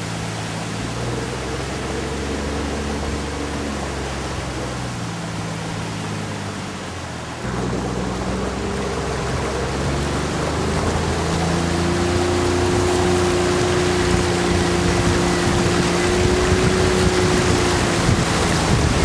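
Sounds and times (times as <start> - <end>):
motorboat engine running: 0.0 - 19.0
water rushing along boat: 0.0 - 19.0.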